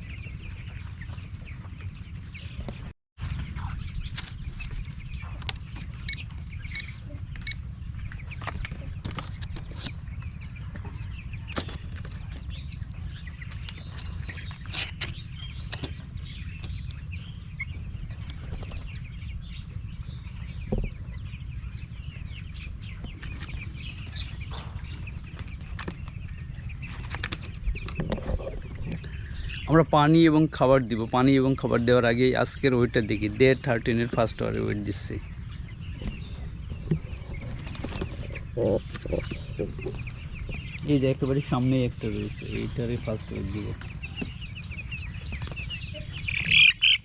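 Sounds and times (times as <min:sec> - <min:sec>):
chicks peeping: 0:00.0 - 0:47.0
chicks rustling: 0:00.0 - 0:47.0
steady low hum: 0:00.0 - 0:47.0.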